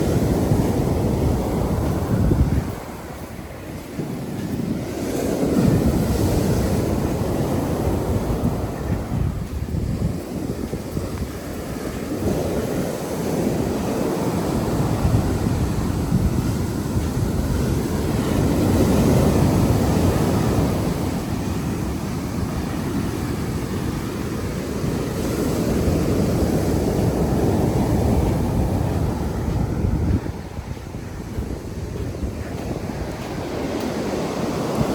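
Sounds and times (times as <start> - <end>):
sea waves washing onto beach: 0.0 - 34.9
wind buffeting microphone: 0.0 - 34.9.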